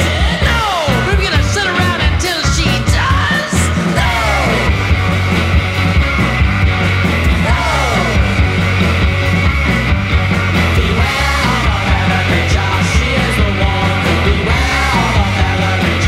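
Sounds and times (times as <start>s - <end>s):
fuzz guitar: 0.0s - 16.0s
rock band playing: 0.0s - 16.0s.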